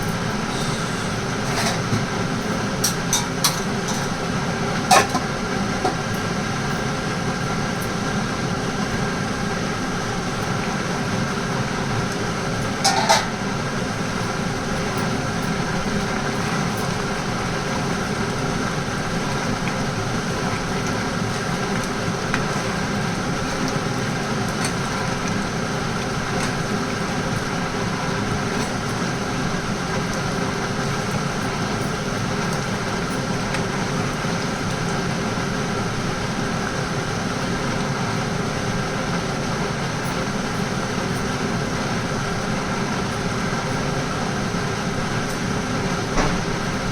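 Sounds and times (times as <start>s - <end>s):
steady machine hum: 0.0s - 46.9s.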